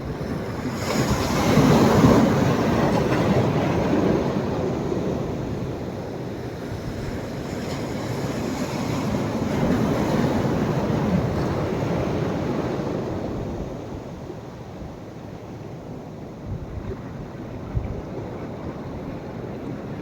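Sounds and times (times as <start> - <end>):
sea waves breaking and washing: 0.0 - 20.0.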